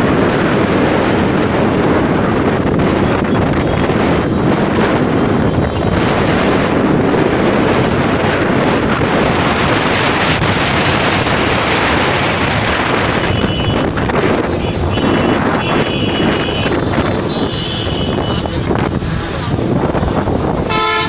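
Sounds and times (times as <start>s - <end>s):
road traffic rumble: 0.0s - 21.0s
wind buffeting microphone: 0.0s - 21.0s.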